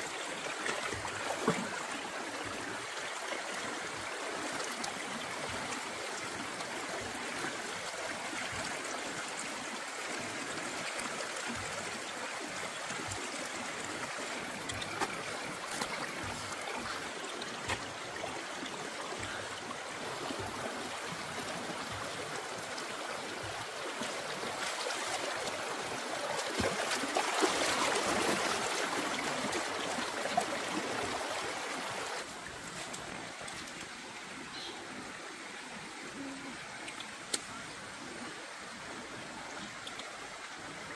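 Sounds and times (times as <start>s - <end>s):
water splashes: 0.0s - 34.8s
stream trickling over stones: 0.0s - 40.9s.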